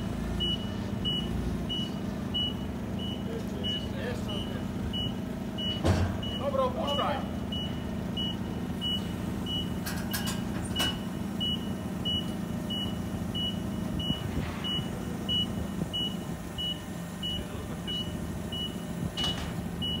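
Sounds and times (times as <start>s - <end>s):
forklift engine hum: 0.0s - 20.0s
reversing alarm beeping: 0.4s - 20.0s.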